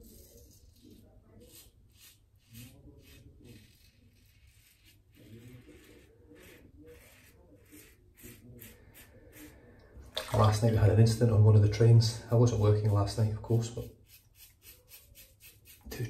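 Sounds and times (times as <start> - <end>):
razor scraping stubble: 0.0 - 9.5, 12.4 - 16.0.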